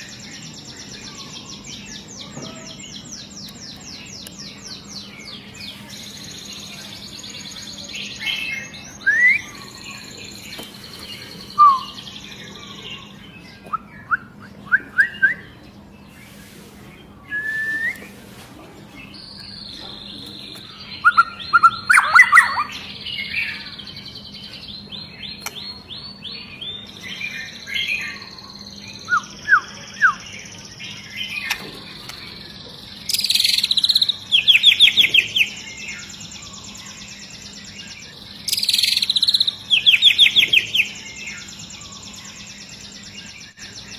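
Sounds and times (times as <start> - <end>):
bird singing whistles and trills: 0.0 - 16.1, 17.2 - 18.1, 19.0 - 43.9.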